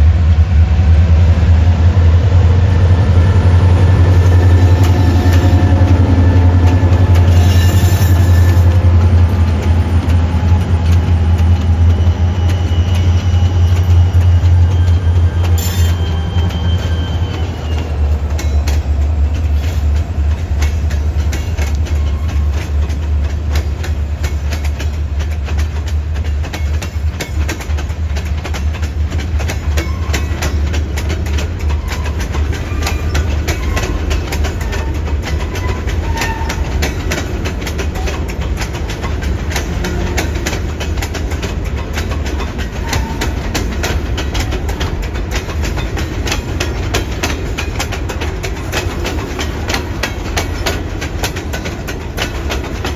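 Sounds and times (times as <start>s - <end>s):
low train rumble: 0.0s - 52.9s
train wheels clicking over rail joints: 1.2s - 52.9s.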